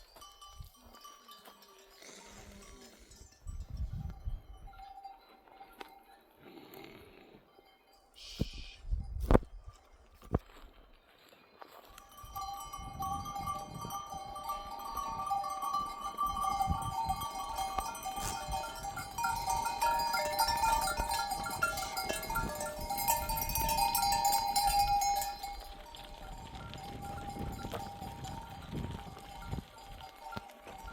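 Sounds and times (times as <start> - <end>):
animal bells ringing: 0.0 - 10.6, 11.5 - 30.9
patter of hooves: 0.0 - 30.9.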